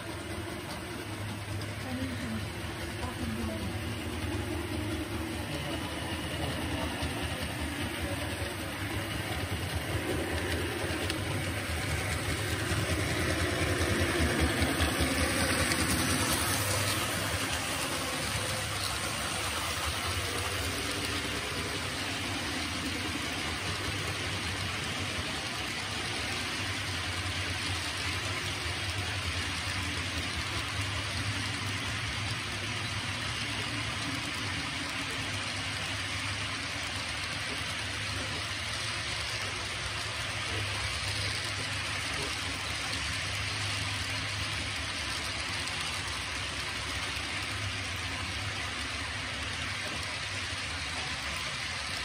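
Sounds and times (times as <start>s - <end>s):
model train rumbling past: 0.0s - 52.0s.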